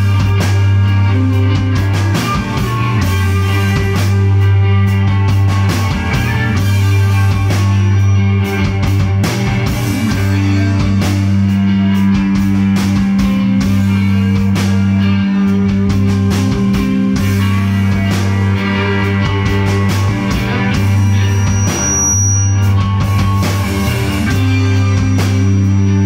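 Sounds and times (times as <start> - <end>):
drum kit hits: 0.0 - 26.0
electric guitars: 0.0 - 26.0
rock band instrumental: 0.0 - 26.0.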